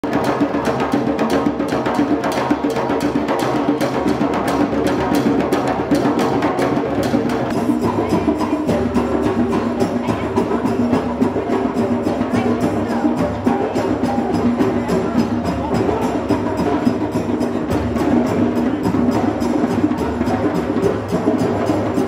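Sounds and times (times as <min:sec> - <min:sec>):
djembes played by hand: 0:00.0 - 0:22.0.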